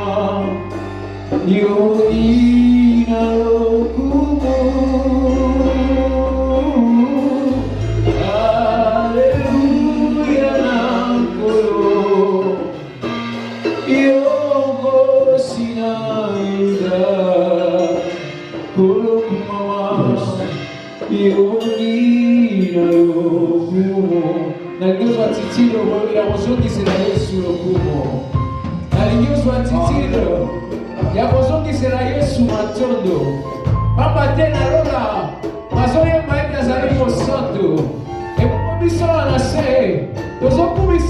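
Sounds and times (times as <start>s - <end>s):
low bass notes: 0.0s - 18.0s, 25.0s - 41.0s
band with voices singing: 0.0s - 41.0s.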